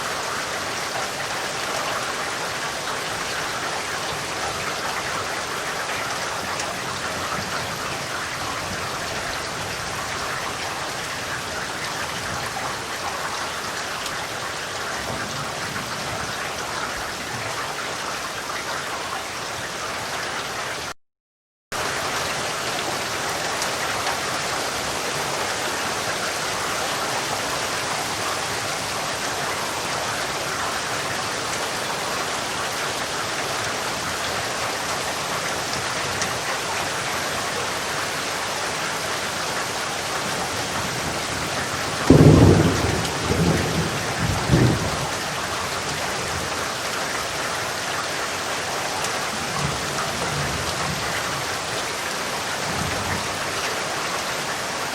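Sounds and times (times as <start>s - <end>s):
steady rain falling: 0.0s - 21.0s, 21.8s - 54.9s.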